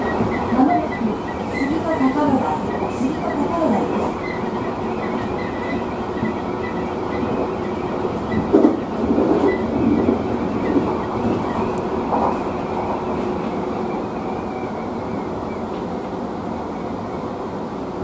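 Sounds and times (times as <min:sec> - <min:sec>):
train wheels clattering: 0:00.0 - 0:14.6
train wheels rumbling on rail: 0:00.0 - 0:18.0.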